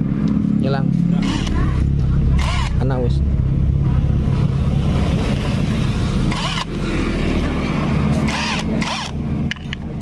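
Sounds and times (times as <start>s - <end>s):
engine running low rumble: 0.0s - 10.0s.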